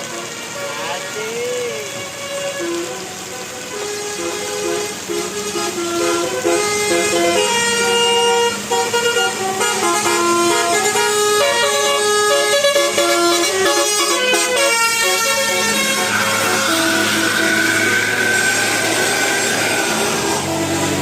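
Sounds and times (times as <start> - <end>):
bus musical horn playing a tune: 0.0 - 21.0.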